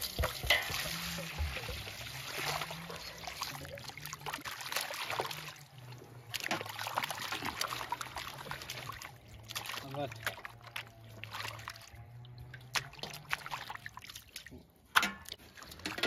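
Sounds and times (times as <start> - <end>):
hands sloshing meat in water: 0.0 - 16.0
water splashing into basin: 0.0 - 16.0.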